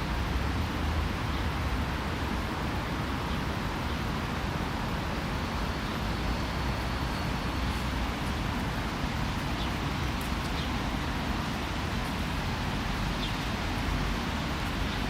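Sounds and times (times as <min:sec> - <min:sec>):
drizzling rain hiss: 0:00.0 - 0:15.0.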